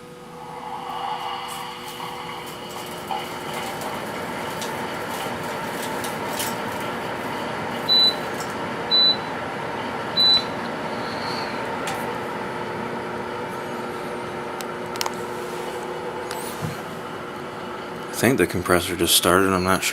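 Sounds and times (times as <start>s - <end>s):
dehumidifier fan whirring: 0.0s - 19.9s.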